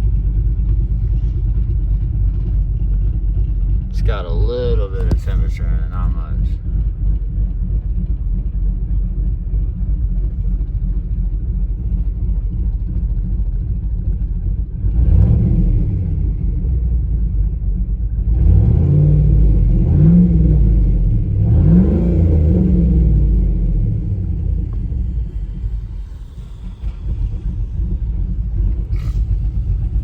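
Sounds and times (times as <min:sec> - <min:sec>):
engine idling and revving: 0:00.0 - 0:30.0.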